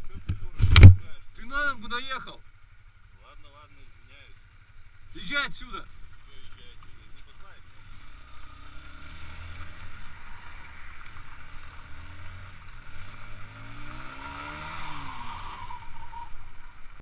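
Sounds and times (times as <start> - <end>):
motor vehicle engine running: 0.0 - 17.0.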